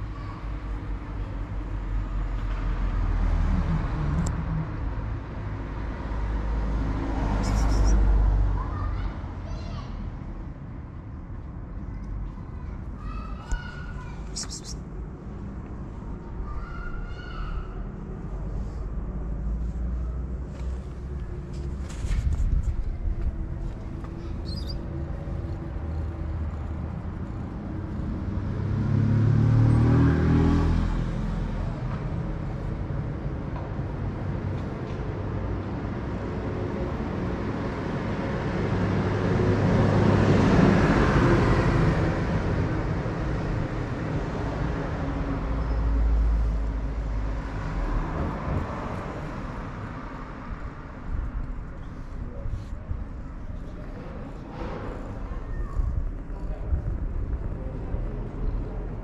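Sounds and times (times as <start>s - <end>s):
low traffic rumble: 0.0s - 59.0s
vehicles passing: 0.0s - 59.0s.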